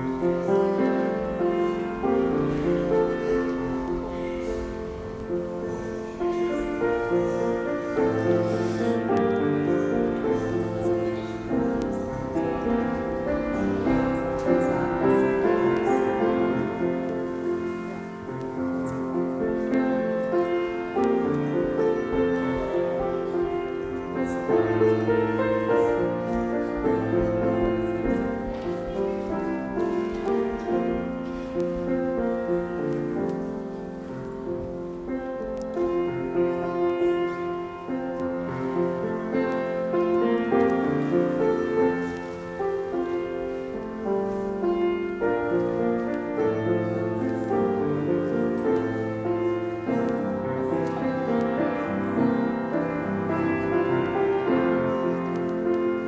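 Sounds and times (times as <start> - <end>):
piano playing a hymn: 0.0 - 56.0.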